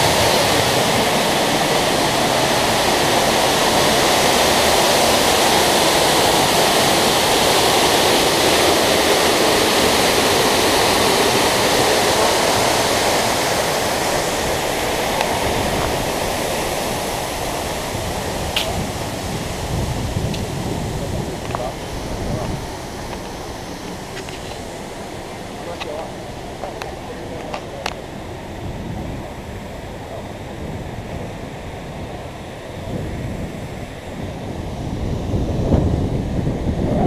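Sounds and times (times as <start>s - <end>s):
waterfall rushing into pool: 0.0s - 37.0s.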